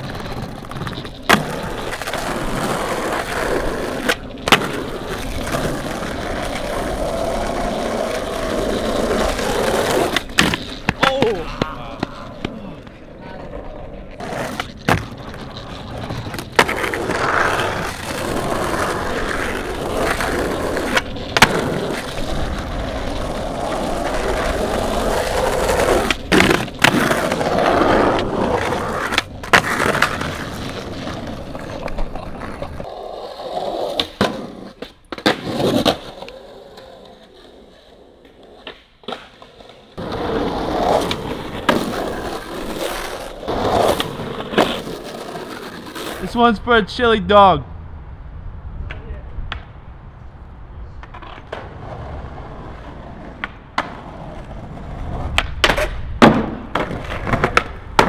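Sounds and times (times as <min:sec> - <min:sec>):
skateboard clacks: 0:00.0 - 0:46.2, 0:48.8 - 0:49.8, 0:51.0 - 0:58.0
skateboard wheels rolling on asphalt: 0:00.0 - 0:58.0.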